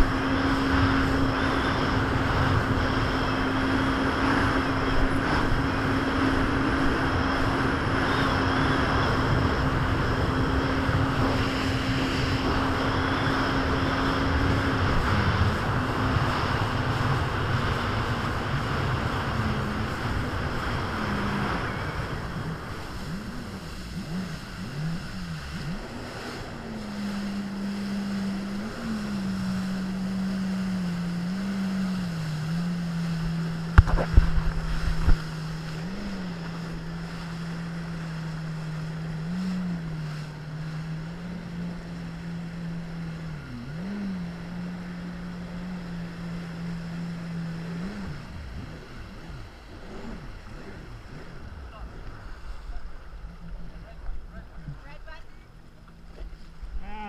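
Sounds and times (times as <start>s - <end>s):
jet ski engine running: 0.0s - 57.0s
wind and water rushing: 0.0s - 57.0s.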